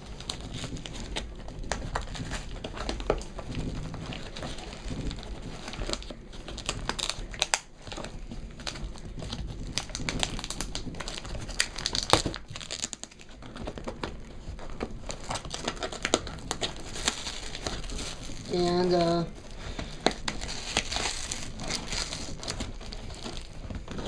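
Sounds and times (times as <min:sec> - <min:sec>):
packaging crinkling: 0:00.0 - 0:24.0
packaging tearing: 0:00.0 - 0:24.0.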